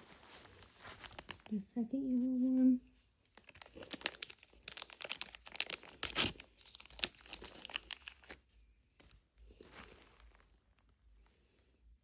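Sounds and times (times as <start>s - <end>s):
wrapping crinkling: 0.0s - 11.1s.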